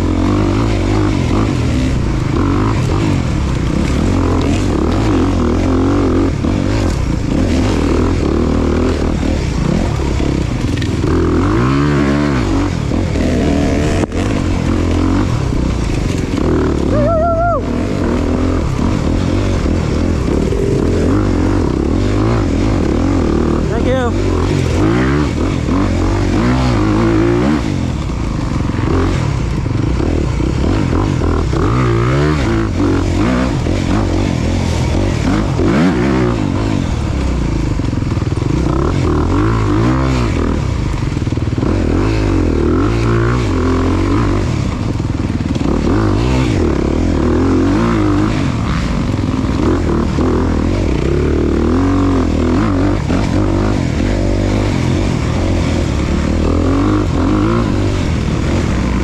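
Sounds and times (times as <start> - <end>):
off-road motorcycle engine revving: 0.0 - 59.0.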